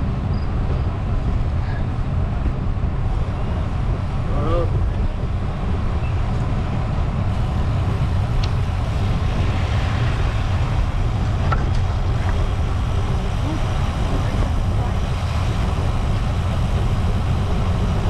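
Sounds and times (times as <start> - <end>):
road and tyre noise: 0.0 - 18.0
wind rush on microphone: 0.0 - 18.0.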